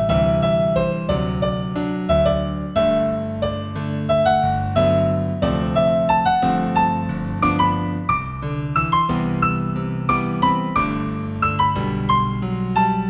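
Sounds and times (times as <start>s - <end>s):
solo piano melody: 0.0s - 13.0s.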